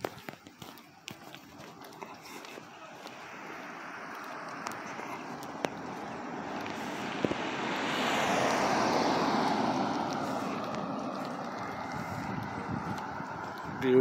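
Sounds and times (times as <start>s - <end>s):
passing vehicle engine: 1.0s - 14.0s.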